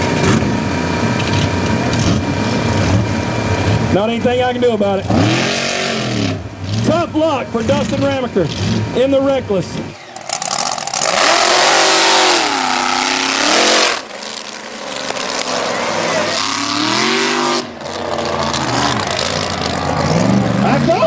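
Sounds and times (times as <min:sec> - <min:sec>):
truck engine revving hard: 0:00.0 - 0:21.0.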